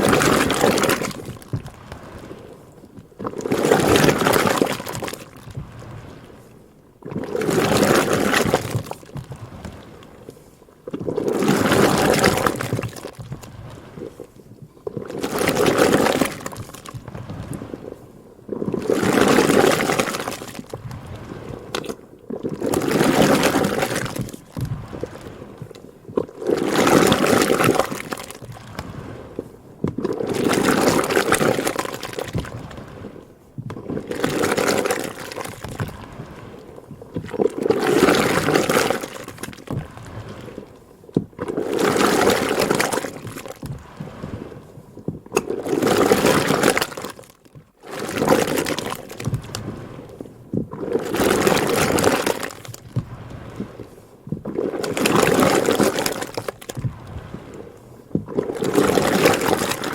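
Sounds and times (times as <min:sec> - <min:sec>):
butter churn sloshing: 0:00.0 - 0:59.9.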